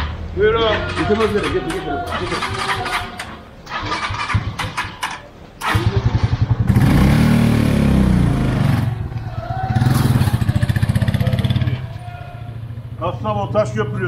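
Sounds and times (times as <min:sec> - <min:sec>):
motorcycle engine revving: 0:00.8 - 0:05.0, 0:05.6 - 0:14.0.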